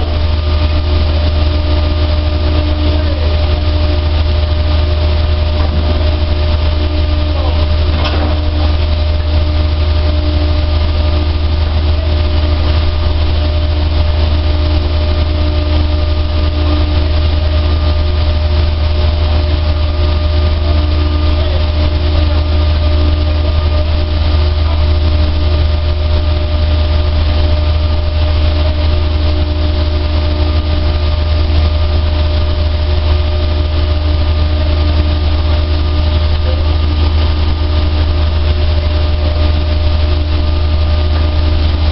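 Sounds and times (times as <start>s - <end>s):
dryer motor humming: 0.0s - 41.9s.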